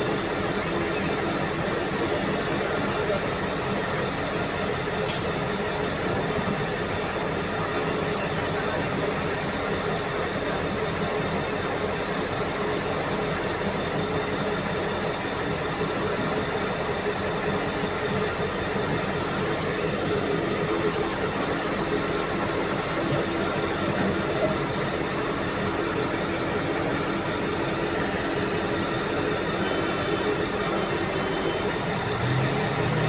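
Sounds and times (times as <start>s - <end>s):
heavy diesel machinery droning: 0.0s - 33.0s.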